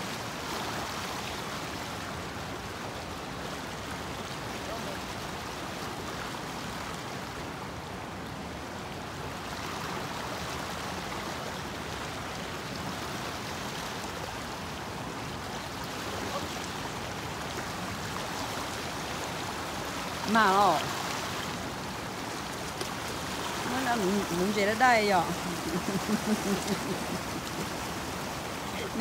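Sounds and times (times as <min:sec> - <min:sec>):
stream water flowing: 0:00.0 - 0:29.0.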